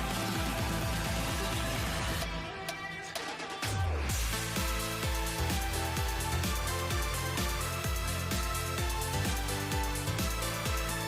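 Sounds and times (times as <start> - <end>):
electronic music with bass: 0.0 - 11.0.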